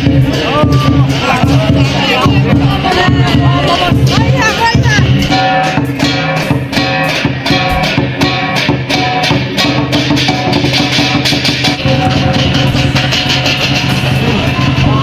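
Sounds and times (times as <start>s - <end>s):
strummed guitar music with beat: 0.0s - 15.0s.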